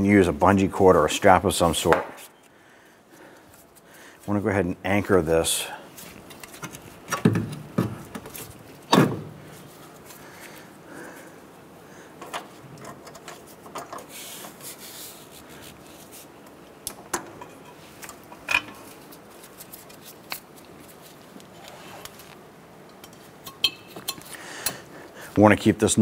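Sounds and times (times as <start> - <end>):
rubbing and handling noise: 0.1 - 25.6.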